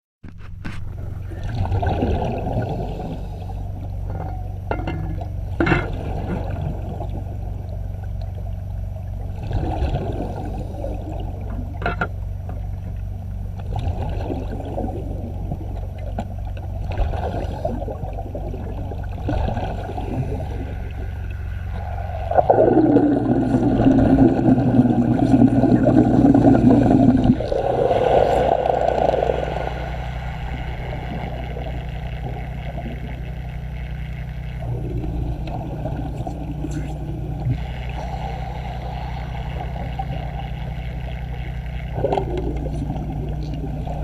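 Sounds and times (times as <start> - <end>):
low underwater hum: 0.2 - 44.0
bubbling gush: 1.1 - 8.4, 9.1 - 12.0, 13.6 - 33.9, 34.5 - 44.0.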